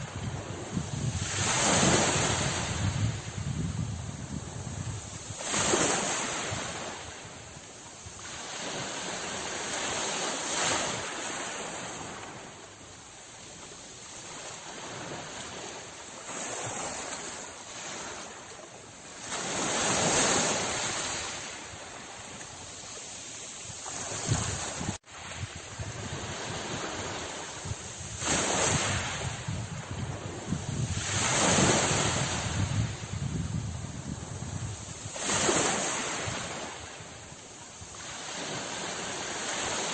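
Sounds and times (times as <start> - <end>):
wind rumbling on microphone: 0.0 - 18.4, 19.1 - 39.9
sea waves breaking on shore: 0.0 - 39.9.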